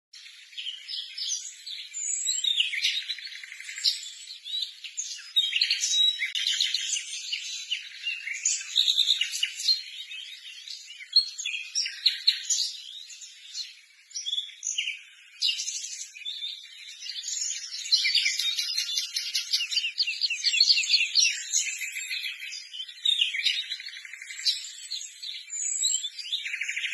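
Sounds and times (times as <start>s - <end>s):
small birds chirping: 0.1s - 26.9s.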